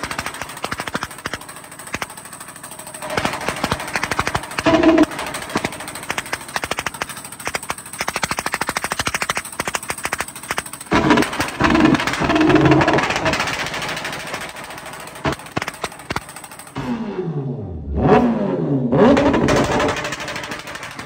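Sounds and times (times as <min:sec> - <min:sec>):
motorcycle exhaust crackling and popping: 0:00.0 - 0:16.9, 0:18.0 - 0:21.0
motorcycle engine revving: 0:00.0 - 0:21.0.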